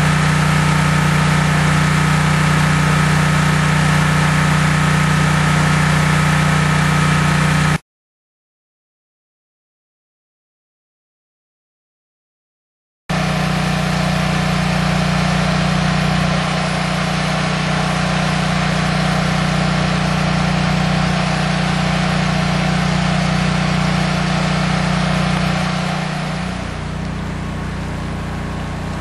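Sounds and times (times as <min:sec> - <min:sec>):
engine hum: 0:00.0 - 0:07.8, 0:13.1 - 0:29.0.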